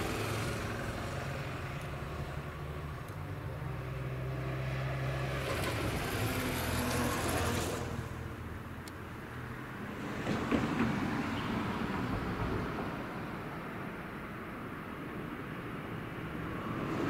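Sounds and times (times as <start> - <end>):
vehicle passing with a hiss: 0.0 - 8.7, 9.4 - 17.0
low hum of traffic: 0.0 - 17.0.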